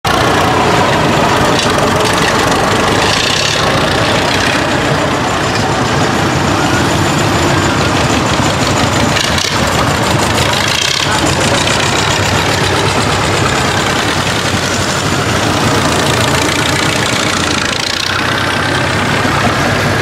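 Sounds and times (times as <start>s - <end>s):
tractor engines driving past: 0.0s - 20.0s.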